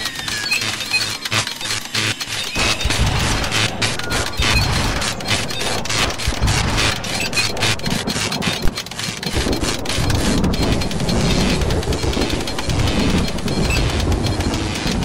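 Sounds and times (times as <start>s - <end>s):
harsh electronic noise music: 0.0s - 15.0s.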